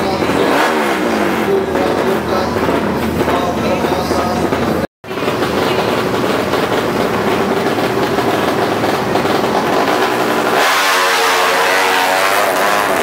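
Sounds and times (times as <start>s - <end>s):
motorcycle engine revving: 0.0s - 13.0s
racing motorcycle engines running: 0.0s - 13.0s.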